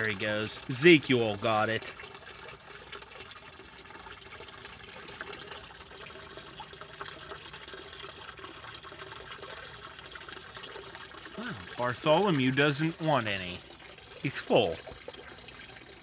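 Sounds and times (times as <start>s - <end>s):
water trickling in a pond: 0.0s - 16.0s.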